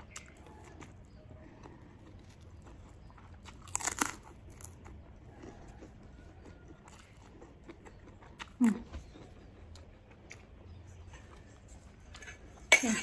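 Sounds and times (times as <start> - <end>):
crunchy bite: 0.0 - 10.5
chewing: 0.0 - 12.7.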